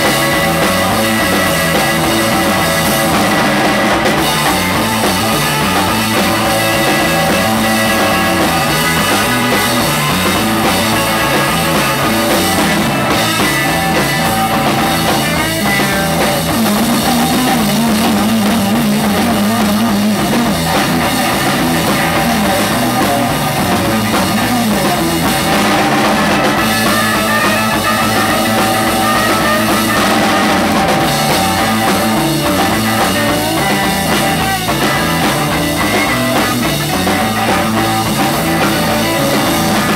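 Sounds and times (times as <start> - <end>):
drum kit steady beat: 0.0 - 39.9
electric guitar playing lead: 0.0 - 39.9.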